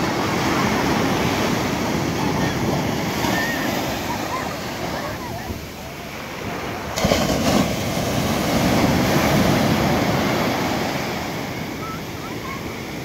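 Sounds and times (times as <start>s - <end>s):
wave breaking on beach: 0.0s - 13.0s.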